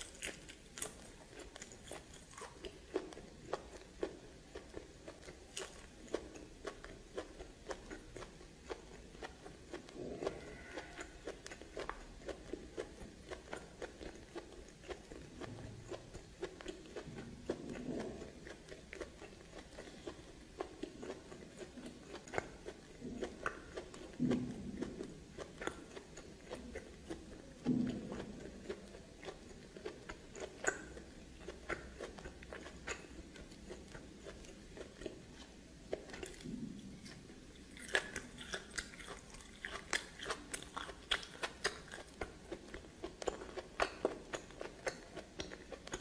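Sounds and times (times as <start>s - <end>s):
chewing and biting: 0.0s - 46.0s.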